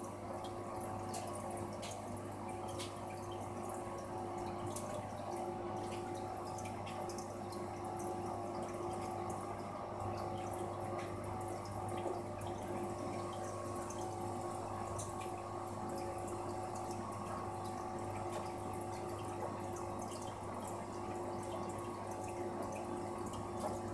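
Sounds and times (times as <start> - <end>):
aquarium water trickling: 0.0 - 23.9
low hum of equipment: 0.0 - 23.9
water drips and splashes: 0.0 - 23.9.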